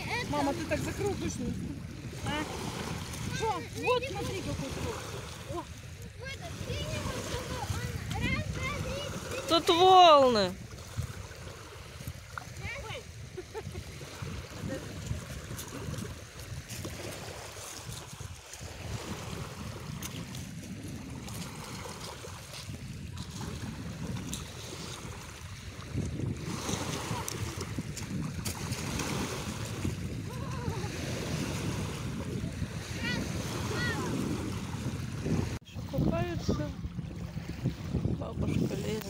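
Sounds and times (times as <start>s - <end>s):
waves lapping on pebble shore: 0.0s - 39.0s
wind buffeting microphone: 0.0s - 39.0s.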